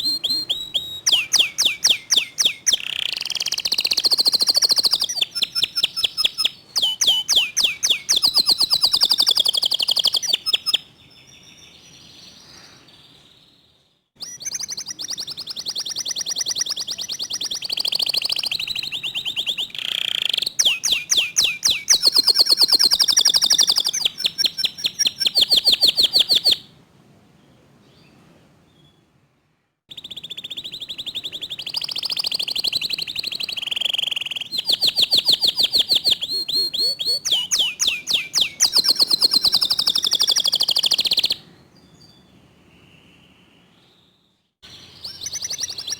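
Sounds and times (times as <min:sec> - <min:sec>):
canary singing fast trills: 0:00.0 - 0:13.6, 0:14.2 - 0:26.7, 0:29.9 - 0:41.4, 0:42.0 - 0:45.9.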